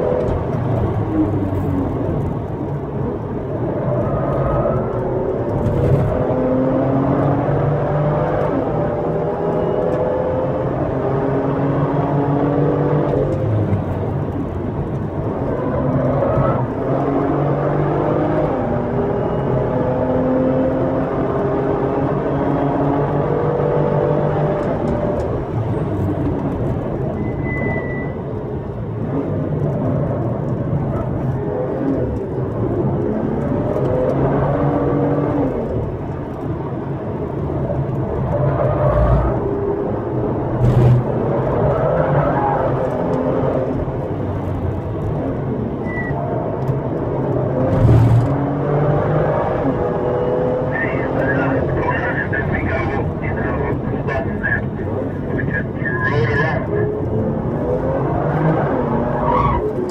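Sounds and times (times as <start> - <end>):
car engine revving: 0.0 - 27.1, 37.5 - 59.9.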